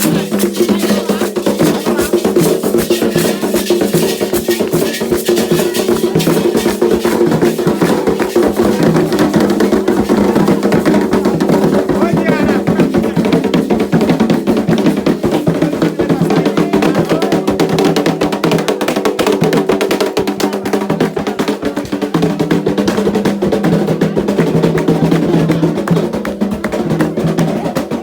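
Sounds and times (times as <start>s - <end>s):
hand drums playing fast rhythm: 0.0s - 28.0s.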